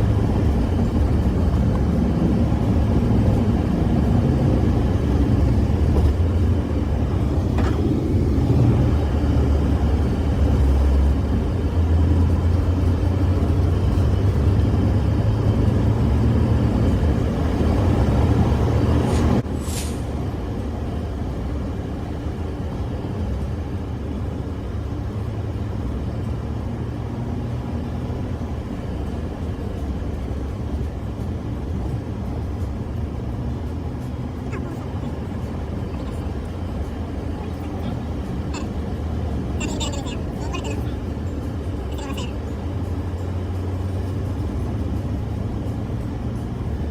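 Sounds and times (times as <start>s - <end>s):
vehicle engine and tyre noise: 0.0s - 46.9s.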